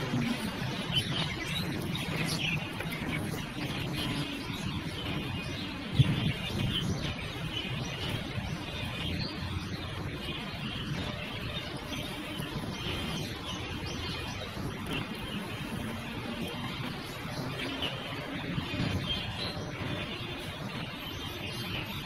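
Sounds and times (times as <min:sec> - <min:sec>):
bird singing chirps and whistles: 0:00.0 - 0:22.0
steady low rumble: 0:00.0 - 0:22.0.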